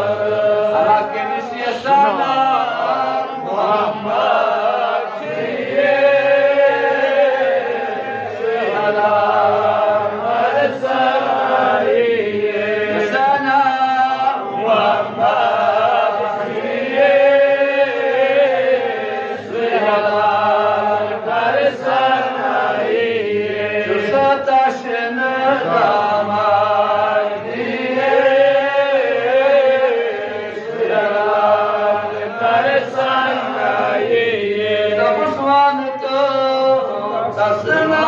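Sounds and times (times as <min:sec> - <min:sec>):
man chanting into a microphone: 0:00.0 - 0:38.0.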